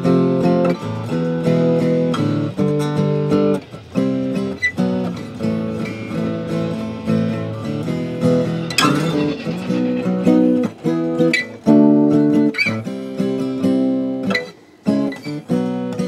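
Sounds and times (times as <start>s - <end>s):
sharp guitar strum: 0.0s - 15.4s
acoustic guitar chords and picking: 0.0s - 16.0s.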